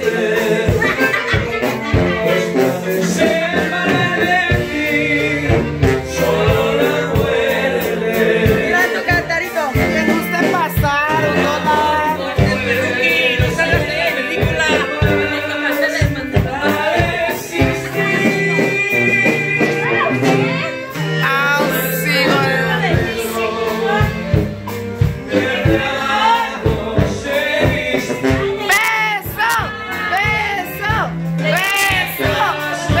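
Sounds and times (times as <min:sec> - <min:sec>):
man singing over a beat: 0:02.2 - 0:19.9, 0:21.2 - 0:24.2, 0:26.6 - 0:33.0.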